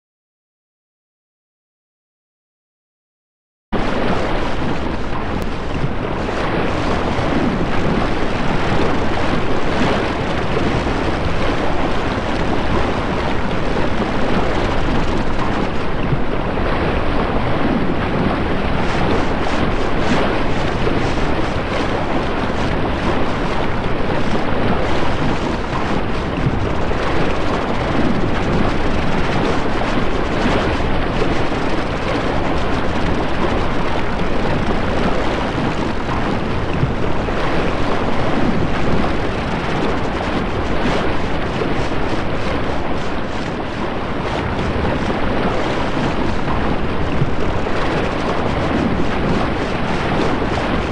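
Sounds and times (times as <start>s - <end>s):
sea waves: 3.8s - 50.9s.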